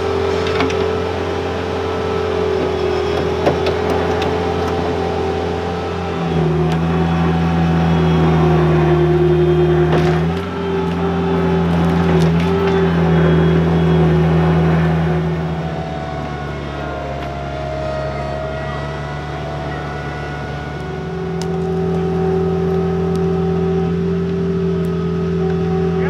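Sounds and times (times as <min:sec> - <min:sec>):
skid steer engine running: 0:00.0 - 0:26.0.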